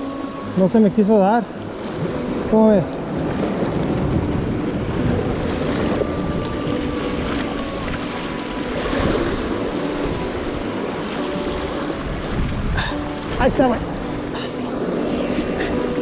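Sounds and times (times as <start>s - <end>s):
ocean surf washing: 0.0s - 16.0s
wind buffeting microphone: 1.6s - 14.5s.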